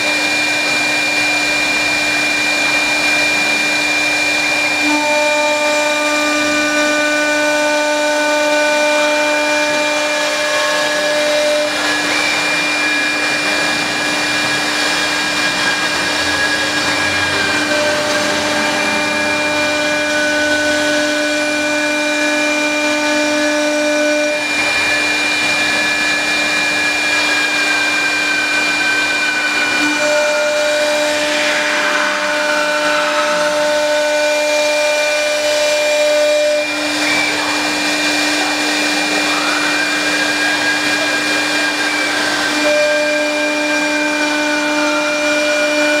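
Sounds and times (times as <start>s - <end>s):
cutter hissing through wood: 0.0s - 46.0s
higher whine changing pitch: 0.0s - 46.0s
lathe machine whine: 0.0s - 46.0s.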